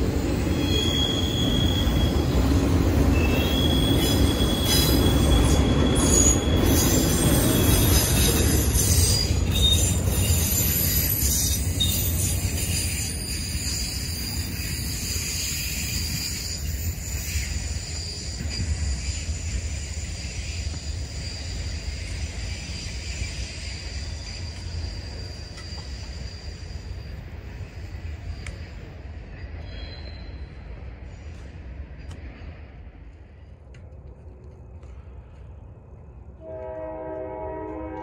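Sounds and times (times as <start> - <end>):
freight train rumbling: 0.0 - 38.0.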